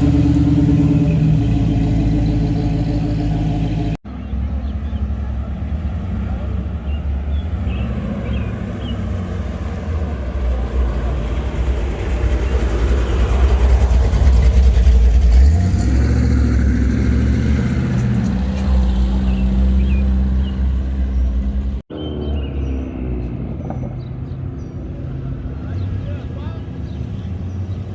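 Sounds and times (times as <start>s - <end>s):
car engine running at low speed: 0.0s - 22.4s.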